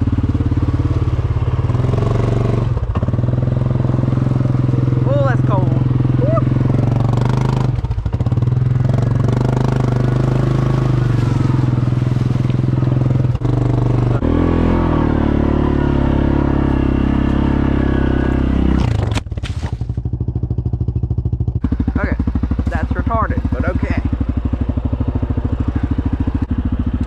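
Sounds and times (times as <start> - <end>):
atv engine running under load: 0.0 - 27.0.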